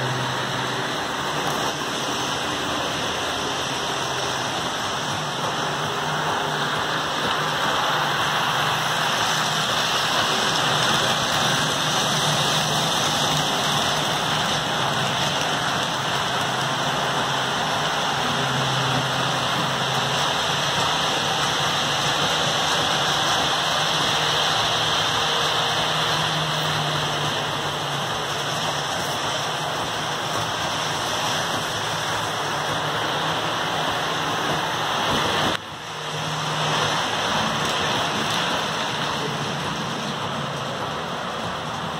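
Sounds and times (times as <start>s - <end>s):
model trains running on track: 0.0s - 41.9s.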